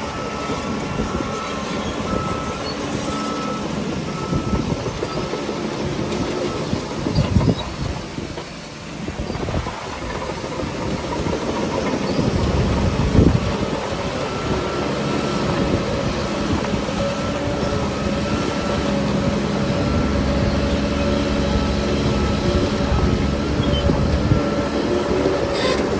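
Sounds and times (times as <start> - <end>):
bulldozer diesel engine: 0.0 - 25.9.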